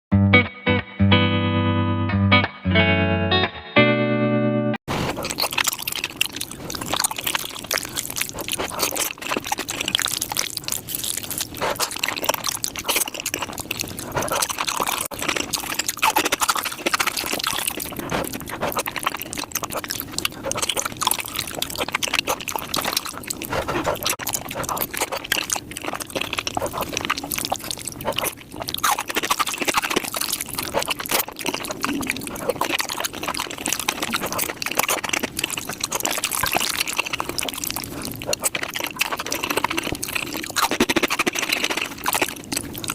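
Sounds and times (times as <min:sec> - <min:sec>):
wet chewing and smacking: 0:04.9 - 0:42.9.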